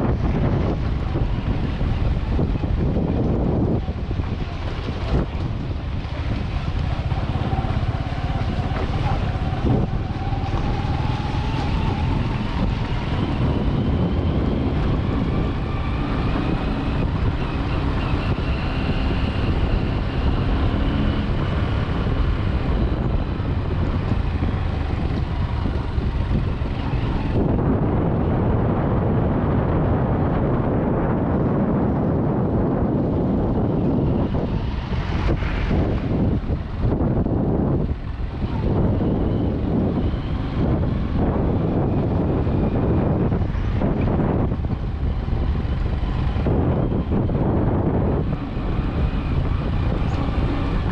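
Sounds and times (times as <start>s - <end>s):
motorcycle engine running: 0.0s - 50.9s
wind on microphone: 0.0s - 50.9s.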